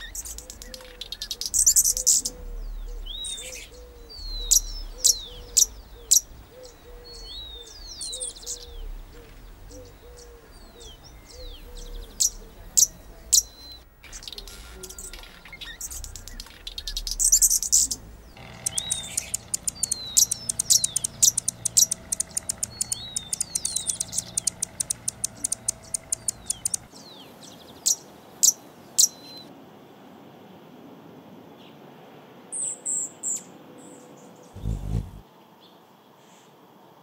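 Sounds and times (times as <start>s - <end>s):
small birds chirping: 0.0s - 29.5s, 32.5s - 36.6s.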